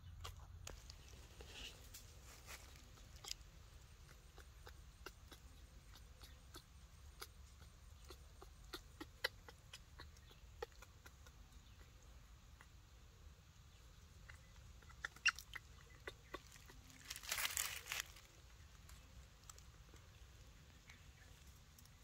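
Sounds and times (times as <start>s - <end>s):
monkey chewing fruit: 0.0s - 12.8s, 14.2s - 22.0s.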